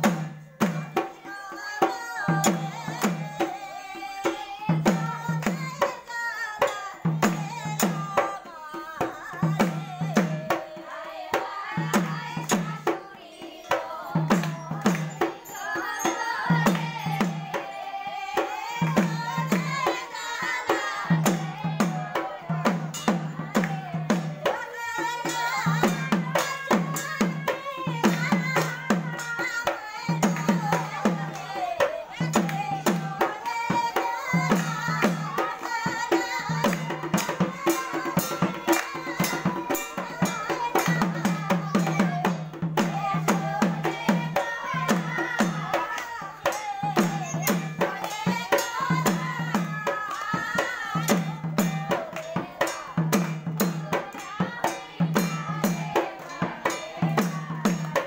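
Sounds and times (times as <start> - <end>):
drum strokes: 0.0 - 58.0
women singing together: 0.0 - 58.0.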